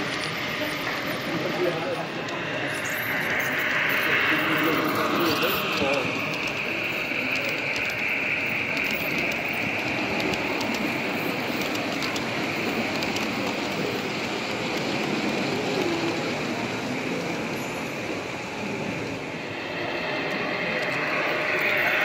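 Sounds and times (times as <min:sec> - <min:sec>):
model train whirring: 0:00.0 - 0:22.0.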